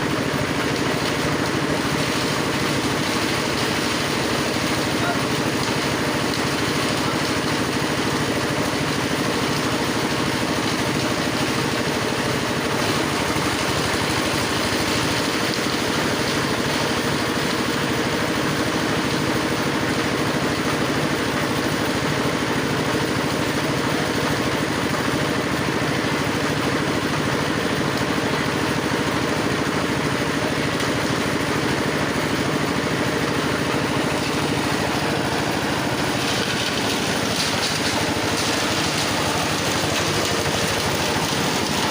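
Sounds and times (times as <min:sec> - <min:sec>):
grass chopper machine running: 0:00.0 - 0:41.9.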